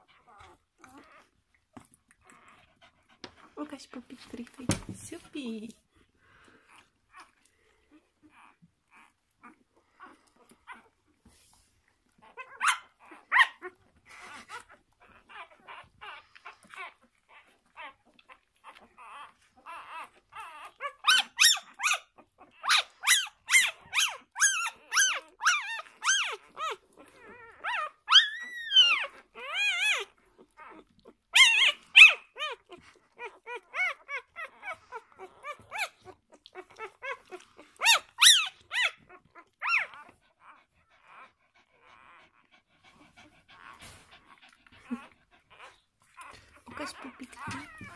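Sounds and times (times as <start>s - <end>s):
newborn puppies squeaking and whining: 0.0s - 47.9s.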